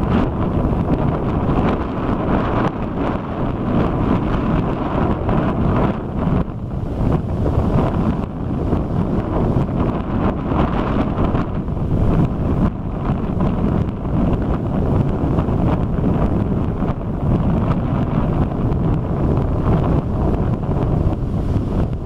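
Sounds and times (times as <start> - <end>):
heavy surf breaking: 0.0 - 22.0
wind buffeting microphone: 0.0 - 22.0.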